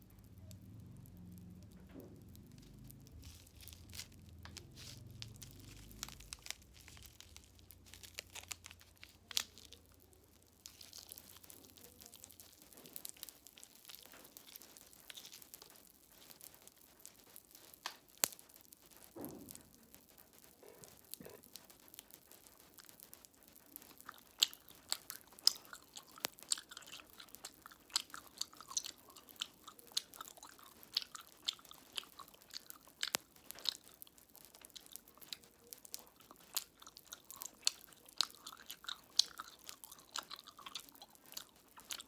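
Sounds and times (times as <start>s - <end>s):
sharp clicks and snaps: 0.0s - 42.0s
plastic packaging crinkling and tearing: 1.7s - 42.0s.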